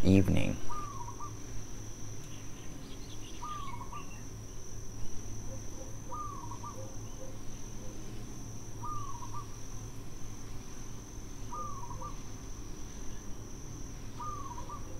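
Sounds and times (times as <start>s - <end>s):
high-pitched insect drone: 0.0s - 14.9s.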